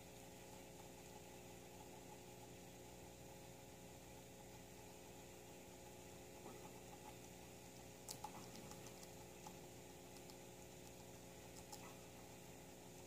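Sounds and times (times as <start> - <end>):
guinea pig chewing greens: 0.0 - 13.0
steady low hum: 0.0 - 13.0.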